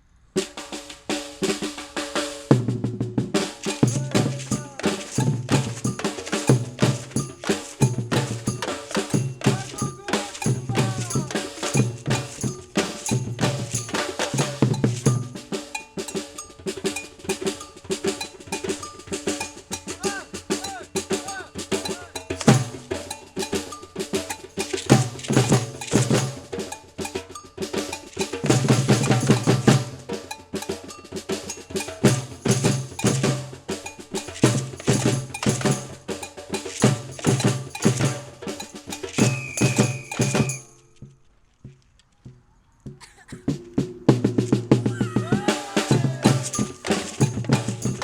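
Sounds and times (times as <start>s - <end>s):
rattling snare drums: 0.4s - 48.0s
cowbell strokes: 3.4s - 41.1s, 43.7s - 48.0s.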